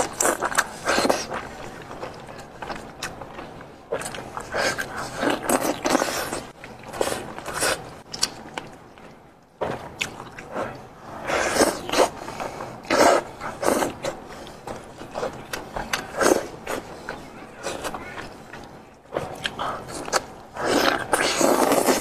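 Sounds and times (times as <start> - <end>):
chewing: 0.0 - 9.2, 9.8 - 22.0.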